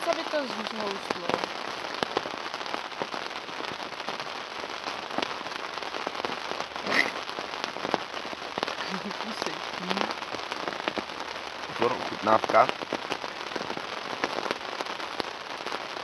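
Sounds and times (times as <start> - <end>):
rain pattering on tent: 0.0 - 16.0.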